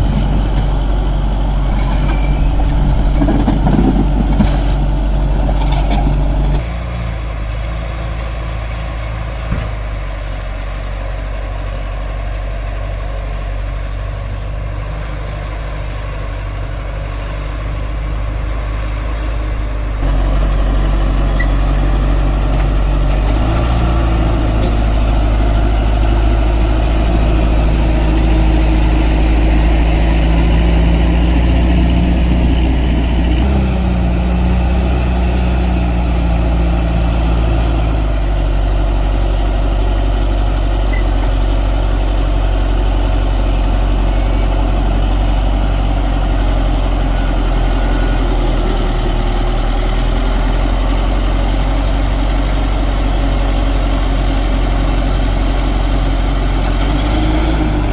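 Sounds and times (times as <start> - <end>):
diesel engine running loudly: 0.0 - 57.9.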